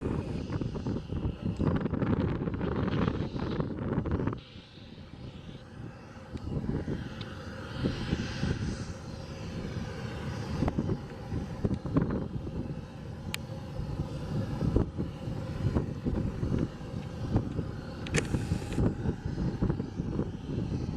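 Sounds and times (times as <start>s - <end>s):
jet engines rushing: 0.0s - 20.9s
wind buffeting the microphone: 0.0s - 20.9s.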